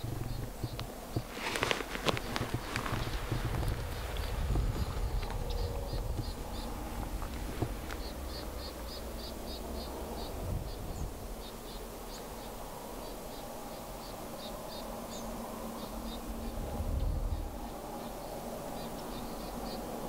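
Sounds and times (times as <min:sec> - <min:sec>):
small bird chirping: 0:00.0 - 0:19.9
steady low rumble: 0:00.0 - 0:20.0.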